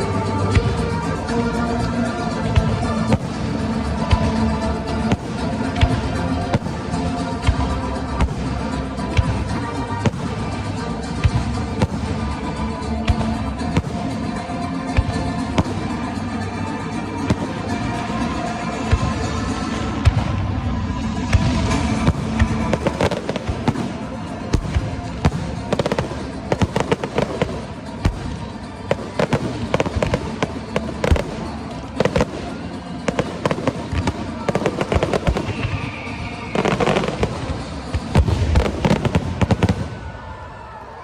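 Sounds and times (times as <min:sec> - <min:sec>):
fireworks bangs and crackles: 0:00.0 - 0:41.0
music playing: 0:00.0 - 0:41.0.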